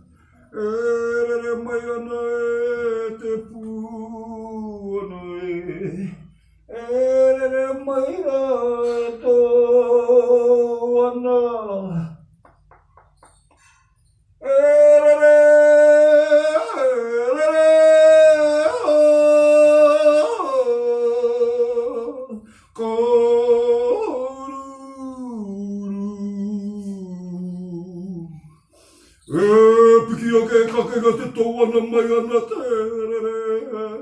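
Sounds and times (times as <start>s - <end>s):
solo voice singing a lament: 0.0s - 12.2s, 14.4s - 28.6s, 29.2s - 34.0s.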